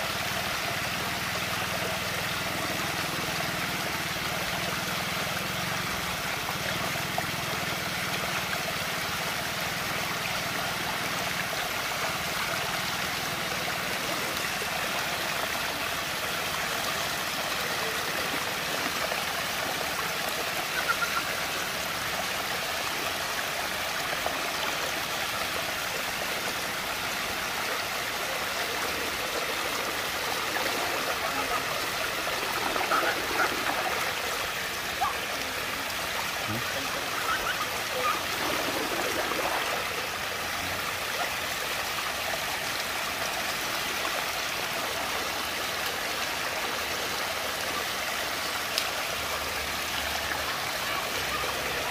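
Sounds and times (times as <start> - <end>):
water rushing: 0.0 - 51.9
water splashes: 0.0 - 51.9.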